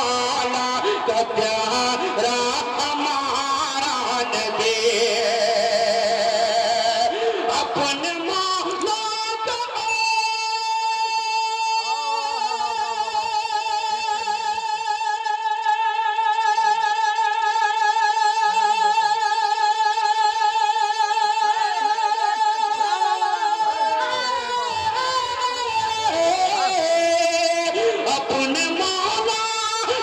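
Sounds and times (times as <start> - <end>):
man singing a long high note: 0.0 - 30.0.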